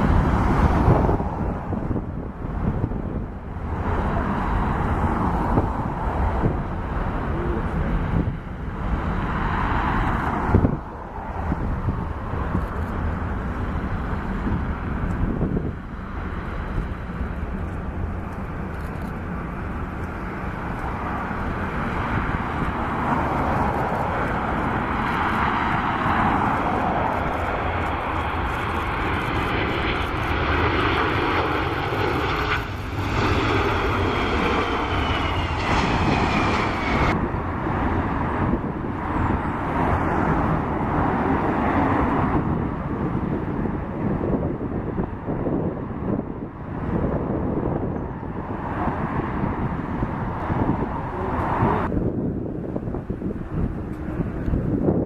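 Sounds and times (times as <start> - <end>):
jet aircraft roar: 0.0 - 55.0.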